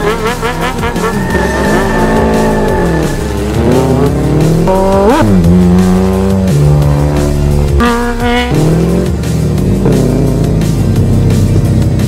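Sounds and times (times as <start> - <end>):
performance engines revving: 0.0 - 12.0.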